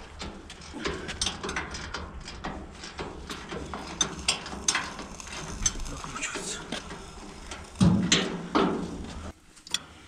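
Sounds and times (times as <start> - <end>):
metallic clicks and clunks: 0.0 - 9.9.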